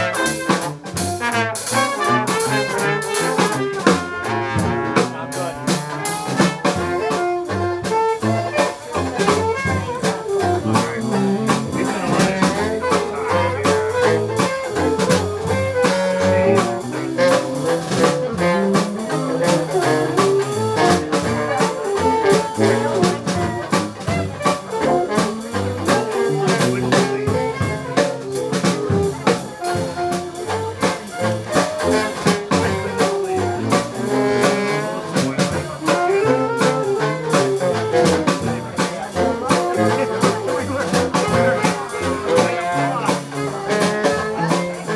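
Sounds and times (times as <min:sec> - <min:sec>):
drum kit beat: 0:00.0 - 0:44.9
live jazz band playing: 0:00.0 - 0:44.9
trombone: 0:00.0 - 0:44.9.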